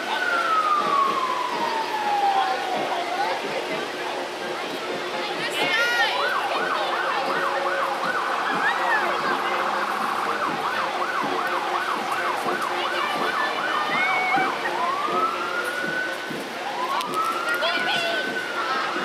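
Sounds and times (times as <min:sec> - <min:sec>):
emergency vehicle siren: 0:00.0 - 0:19.0.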